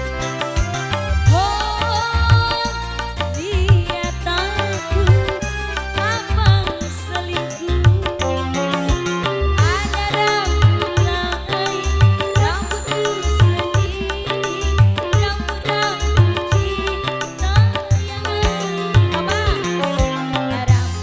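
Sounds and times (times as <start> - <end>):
live band music with hand drums: 0.0 - 21.0.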